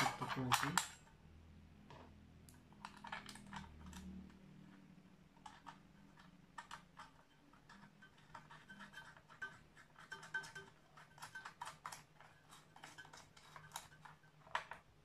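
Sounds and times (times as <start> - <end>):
clicks and knocks of handling parts: 0.0 - 1.2, 1.8 - 15.0.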